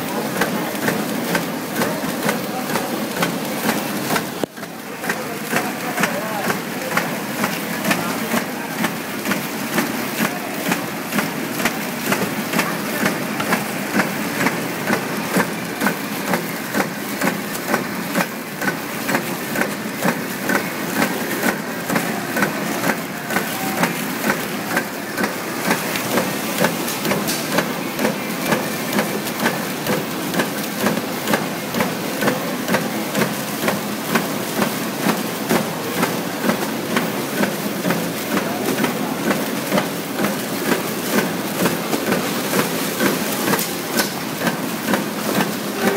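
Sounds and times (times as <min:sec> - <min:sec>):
machine knocking: 0:00.0 - 0:45.9
wrapping machine clattering: 0:00.0 - 0:45.9.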